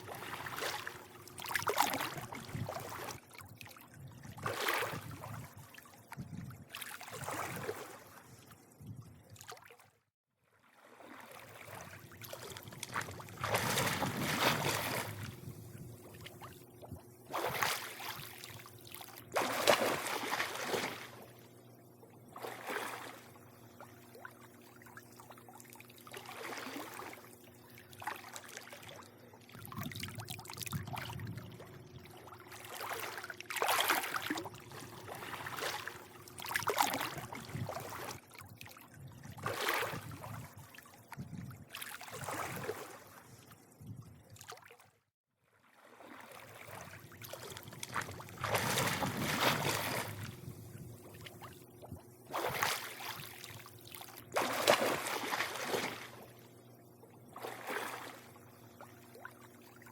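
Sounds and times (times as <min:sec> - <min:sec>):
faint steady hum: 0:00.0 - 0:09.4, 0:10.8 - 0:44.5, 0:45.8 - 0:59.9
pool water lapping and splashing: 0:00.0 - 0:59.9.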